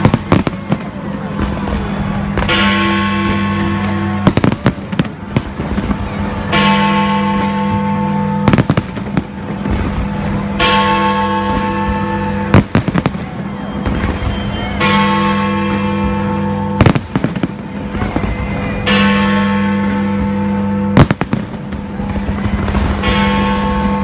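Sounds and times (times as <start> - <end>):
fireworks exploding: 0.0 - 6.6, 7.3 - 10.7, 11.3 - 18.9, 21.0 - 24.0.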